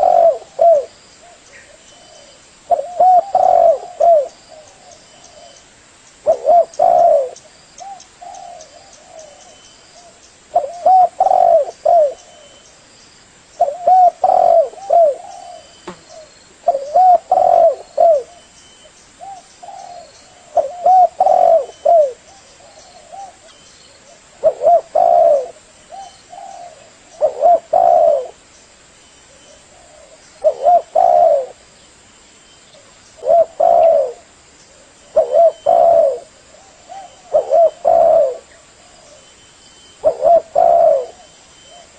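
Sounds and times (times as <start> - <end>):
dove cooing: 0.0 - 5.6, 6.2 - 12.6, 13.6 - 18.6, 19.2 - 28.4, 29.3 - 31.6, 32.8 - 41.9.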